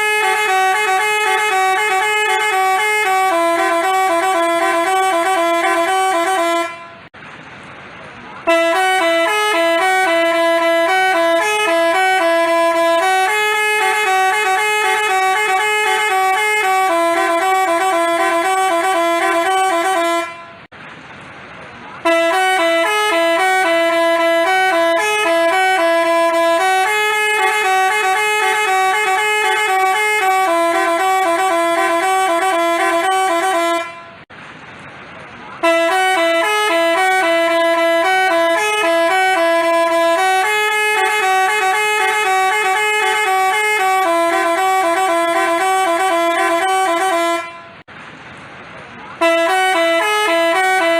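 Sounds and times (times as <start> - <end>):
bus horn playing a tune: 0.0 - 7.2, 8.4 - 20.7, 22.0 - 34.3, 35.6 - 47.9, 49.2 - 50.9.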